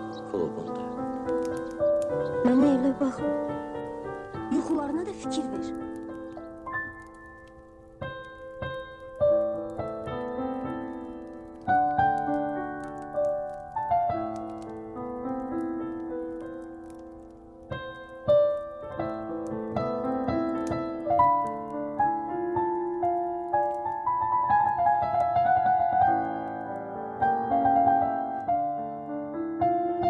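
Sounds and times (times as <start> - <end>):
faint fireplace crackles: 0.0 - 30.0
solo piano melody: 0.0 - 30.0.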